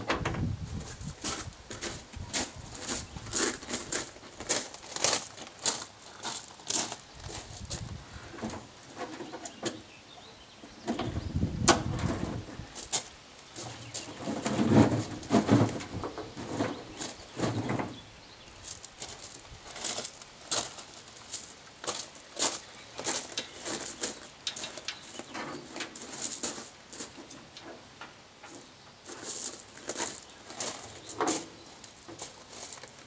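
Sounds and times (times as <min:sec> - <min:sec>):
footsteps on gravel: 0:00.6 - 0:08.7, 0:12.2 - 0:18.0, 0:18.6 - 0:27.3, 0:28.5 - 0:33.0.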